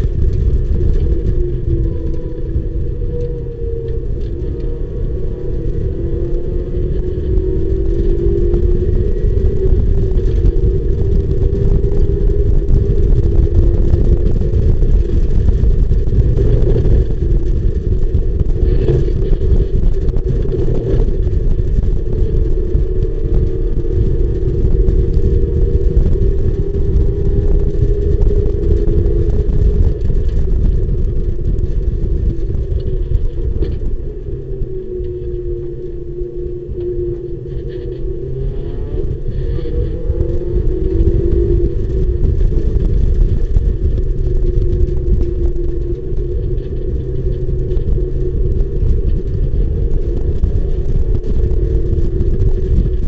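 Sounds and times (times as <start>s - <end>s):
race car engine at high revs: 0.0s - 53.0s
wind and road noise rumble: 0.0s - 53.0s.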